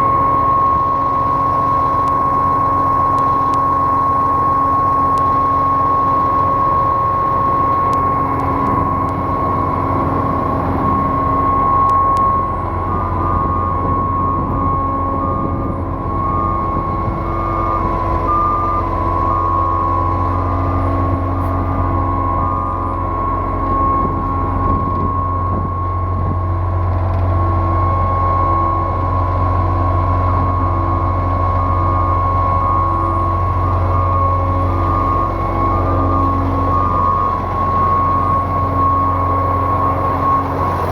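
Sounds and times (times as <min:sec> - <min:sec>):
concrete pump engine hum: 0:00.0 - 0:40.9
high-pitched whine: 0:00.0 - 0:40.9
short higher tone: 0:00.0 - 0:40.9.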